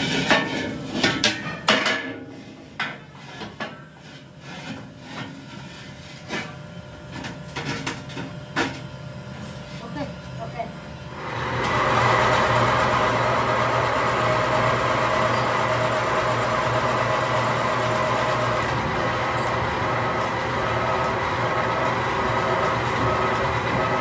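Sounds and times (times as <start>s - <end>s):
hydraulic press humming and whining: 0.0s - 24.0s.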